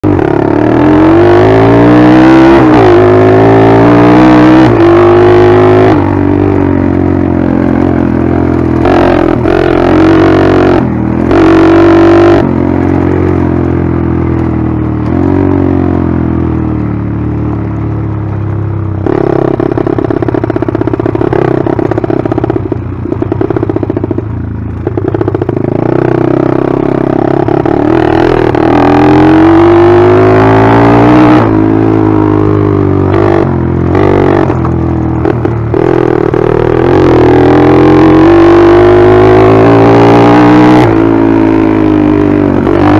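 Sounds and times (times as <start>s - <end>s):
motorbike engine revving: 0.0s - 16.5s, 19.0s - 42.9s.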